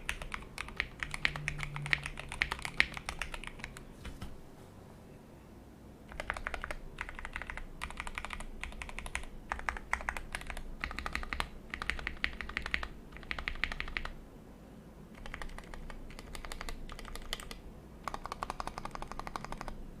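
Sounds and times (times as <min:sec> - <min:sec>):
typing on mechanical keyboard: 0:00.0 - 0:04.2, 0:06.1 - 0:14.2, 0:15.2 - 0:19.8.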